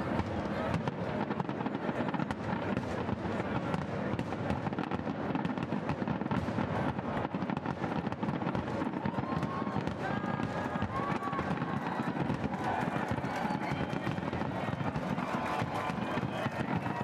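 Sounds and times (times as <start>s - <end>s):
fireworks bursting: 0.0s - 17.0s
rapid fireworks crackling: 0.0s - 17.0s.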